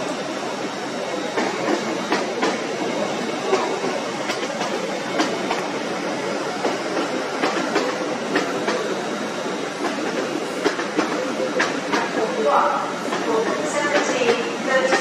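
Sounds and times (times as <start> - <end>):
train rumbling slowly: 0.0 - 15.0.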